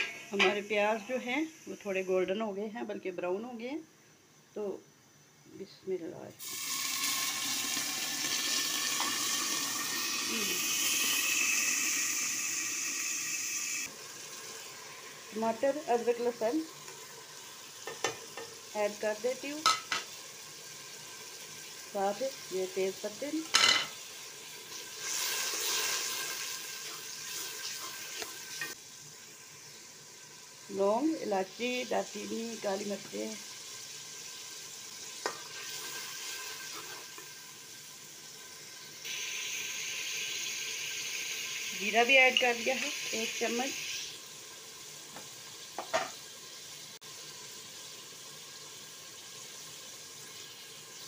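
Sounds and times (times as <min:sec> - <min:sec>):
paste sizzling in hot oil: 0:00.0 - 0:02.9, 0:06.4 - 0:51.0.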